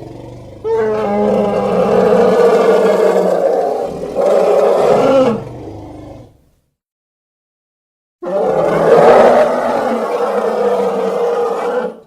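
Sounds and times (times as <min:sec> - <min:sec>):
dinosaur roar: 0:00.0 - 0:06.4, 0:08.2 - 0:12.0.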